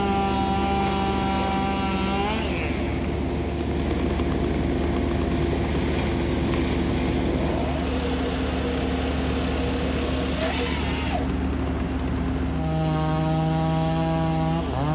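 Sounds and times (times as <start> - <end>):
engine humming steadily: 0.0 - 14.9.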